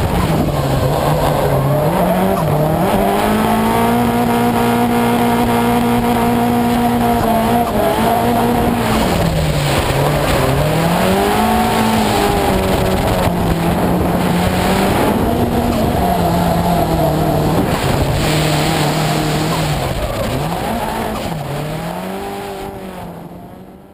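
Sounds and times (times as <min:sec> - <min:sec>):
wind rush: 0:00.0 - 0:23.0
car engine revving: 0:00.0 - 0:23.9.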